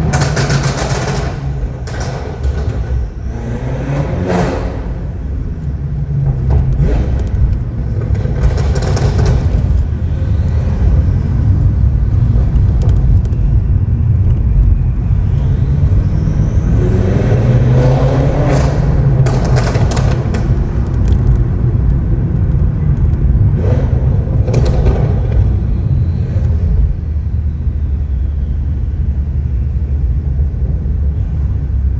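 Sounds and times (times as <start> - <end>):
car engine accelerating: 0.0 - 31.9
deep loud exhaust rumble: 0.0 - 31.9.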